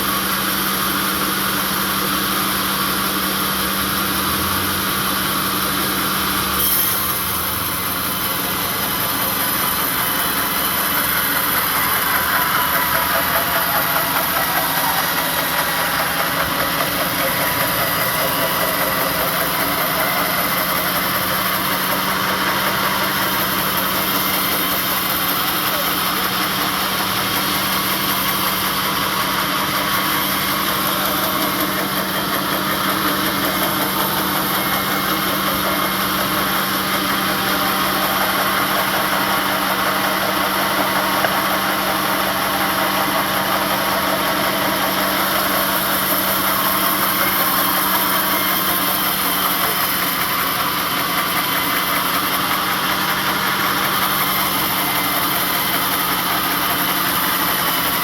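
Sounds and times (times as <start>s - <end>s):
engine droning: 1.6s - 58.0s.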